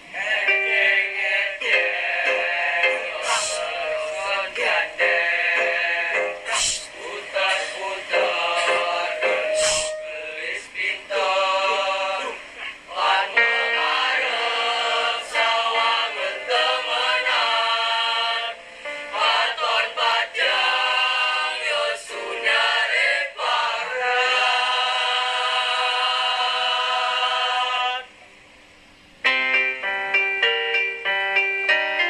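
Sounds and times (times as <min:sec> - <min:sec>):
children's choir singing in harmony: 0:00.0 - 0:28.1.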